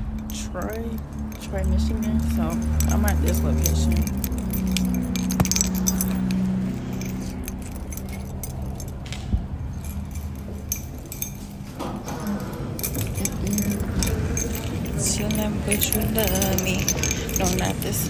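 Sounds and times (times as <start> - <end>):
clinking and jingling: 0.0 - 18.0.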